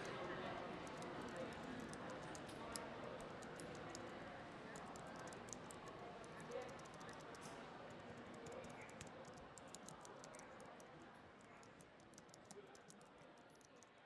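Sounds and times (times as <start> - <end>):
distant murmur of voices: 0.0 - 14.0
light clicks and taps: 0.8 - 14.0.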